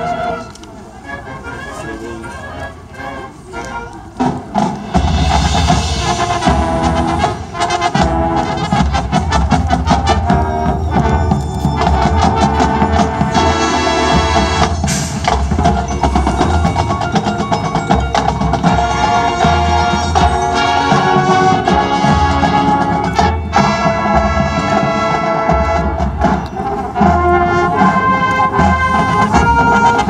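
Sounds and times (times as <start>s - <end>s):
marching band playing: 0.0s - 30.0s
percussion strikes: 4.2s - 30.0s.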